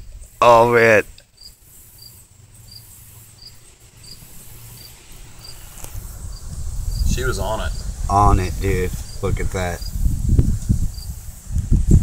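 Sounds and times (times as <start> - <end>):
cricket chirping: 1.2 - 11.2.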